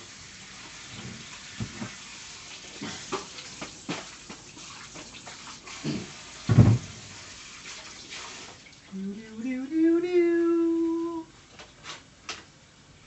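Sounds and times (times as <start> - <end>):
running water: 0.0 - 11.3.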